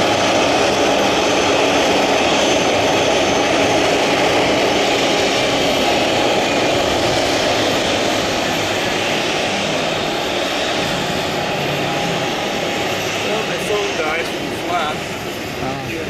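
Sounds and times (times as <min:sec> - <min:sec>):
jet engines at taxi idle: 0:00.0 - 0:16.0.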